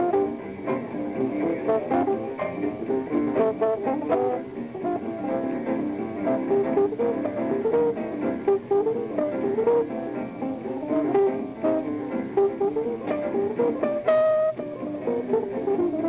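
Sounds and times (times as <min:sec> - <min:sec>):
electric guitar single notes: 0:00.0 - 0:16.0
jazz trio playing: 0:00.0 - 0:16.0.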